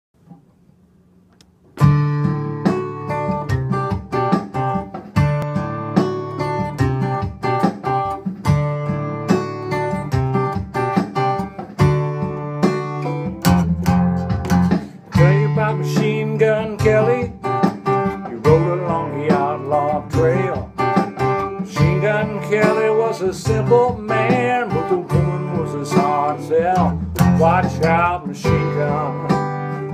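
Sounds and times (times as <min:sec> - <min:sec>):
acoustic guitar picking and strumming: 0:01.6 - 0:29.9.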